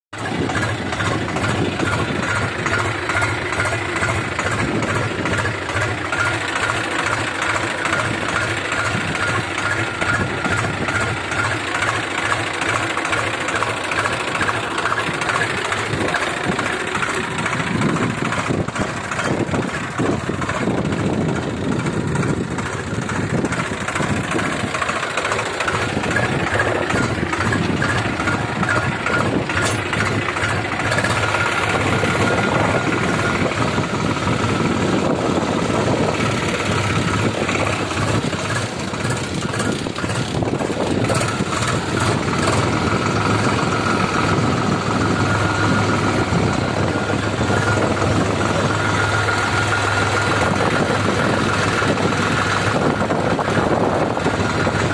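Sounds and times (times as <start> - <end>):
tractor diesel engine chugging: 0.1 - 54.9.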